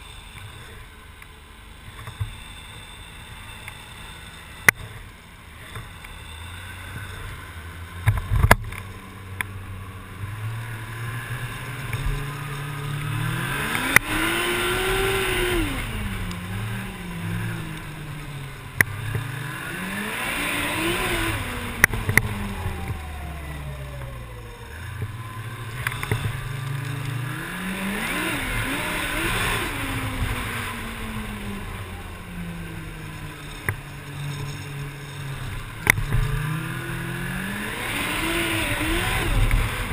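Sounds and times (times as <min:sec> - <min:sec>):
snowmobile engine revving: 0:00.0 - 0:08.6, 0:09.5 - 0:39.9.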